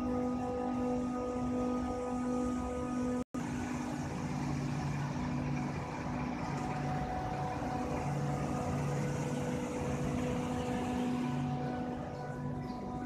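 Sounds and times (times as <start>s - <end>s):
condenser fans whirring: 0.0s - 13.0s
machine hum: 0.0s - 13.0s.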